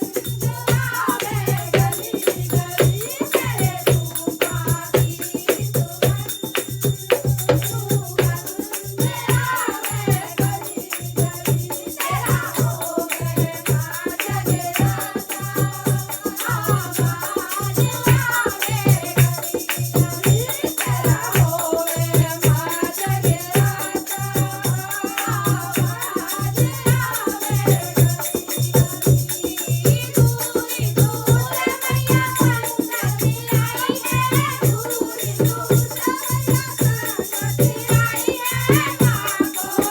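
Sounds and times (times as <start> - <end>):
jingling tambourine: 0.0 - 39.9
steady drum beat: 0.0 - 39.9.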